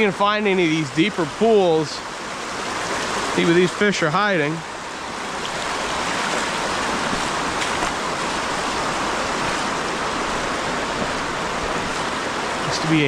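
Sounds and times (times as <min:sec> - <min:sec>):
stream babbling over stones: 0:00.0 - 0:13.0.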